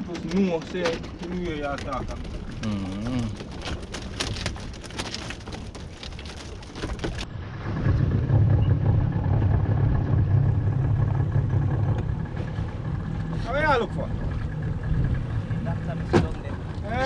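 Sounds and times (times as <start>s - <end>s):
outboard engine running: 0.0s - 17.0s.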